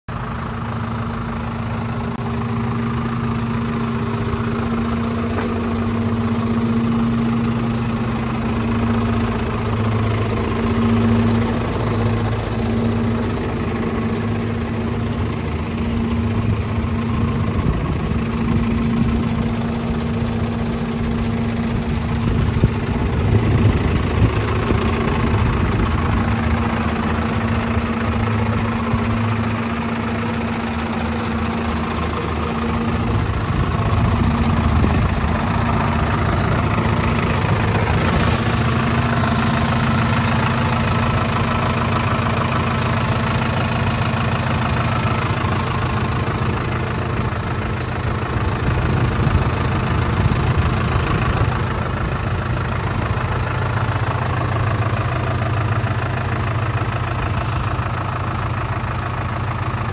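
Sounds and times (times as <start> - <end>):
diesel engine idling: 0.1 - 59.9.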